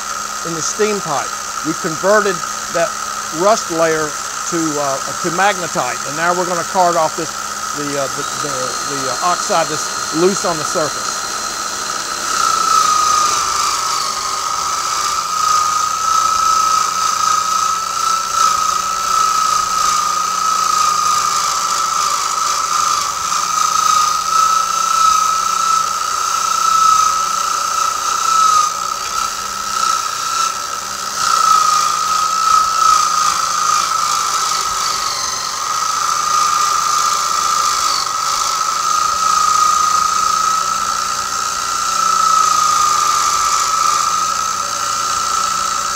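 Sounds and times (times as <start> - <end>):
electric drill wire wheel whine: 0.0 - 45.9.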